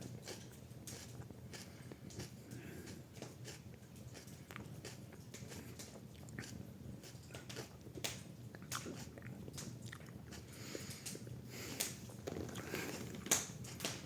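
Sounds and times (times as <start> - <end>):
person chewing crunchily: 0.0 - 14.0.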